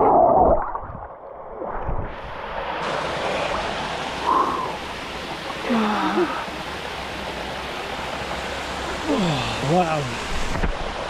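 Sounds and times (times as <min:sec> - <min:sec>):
waterfall pouring into a pool: 0:02.1 - 0:11.0.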